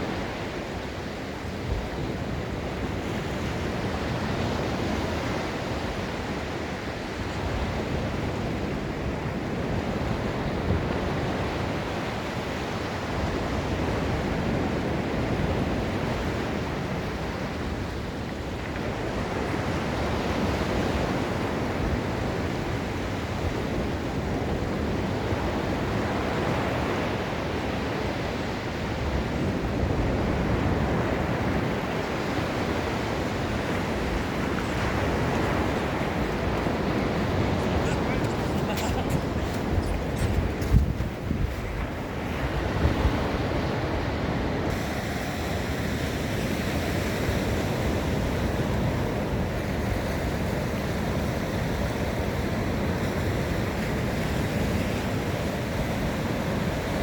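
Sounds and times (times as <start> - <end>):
ocean waves on beach: 0.0 - 57.0.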